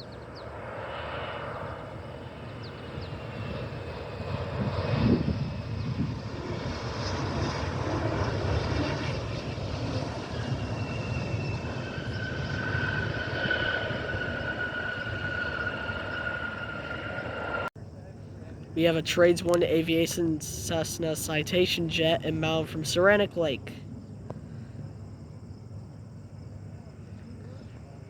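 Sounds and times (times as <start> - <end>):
high jet engine whine: 0.0 - 28.0
jet engine rumble: 0.0 - 28.0.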